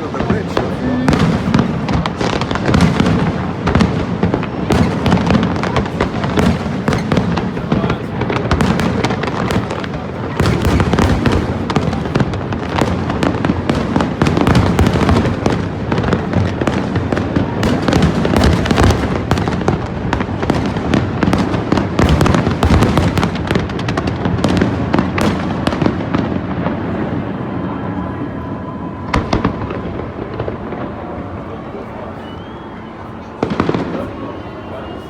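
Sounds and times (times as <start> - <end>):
rumble of firework booms: 0.0 - 31.5
firework bangs and crackles: 0.0 - 35.0.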